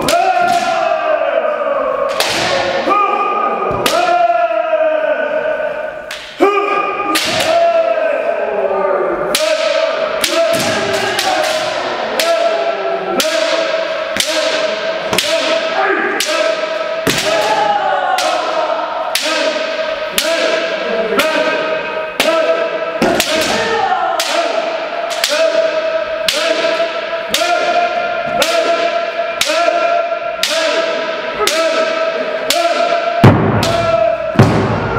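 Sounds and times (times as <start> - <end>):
fencers shouting: 0.0 - 34.9.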